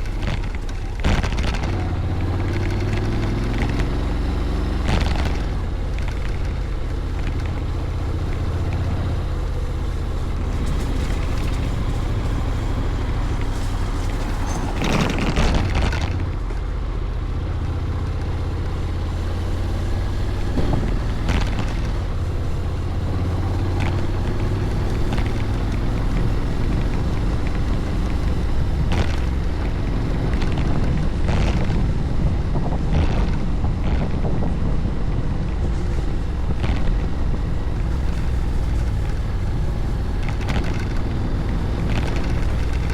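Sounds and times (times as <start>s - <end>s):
wind rushing over microphone: 0.0s - 17.6s, 18.2s - 42.9s
scooter engine running: 0.0s - 42.9s.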